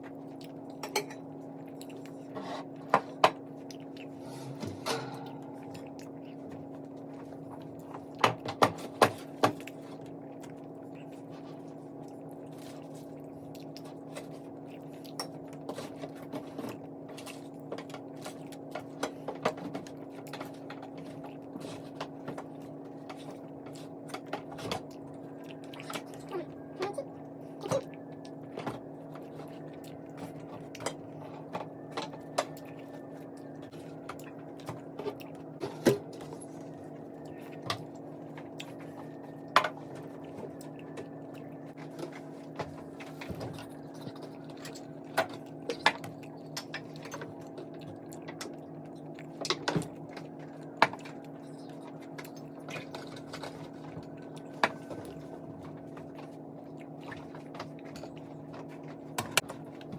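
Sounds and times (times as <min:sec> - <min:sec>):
steady low hum: 0:00.0 - 0:59.9
wet chewing sounds: 0:00.0 - 0:59.9.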